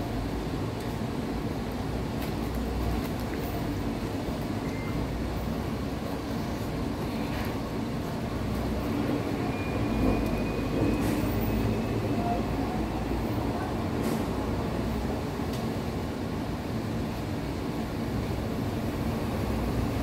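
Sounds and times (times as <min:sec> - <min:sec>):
low rumbling room noise: 0:00.0 - 0:20.0.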